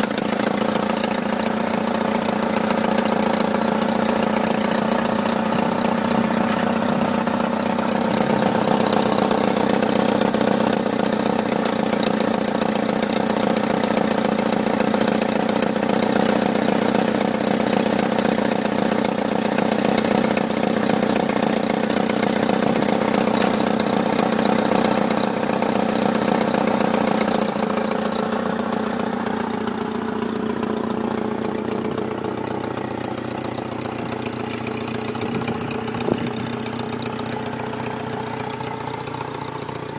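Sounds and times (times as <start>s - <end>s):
small petrol engine idling: 0.0s - 39.9s.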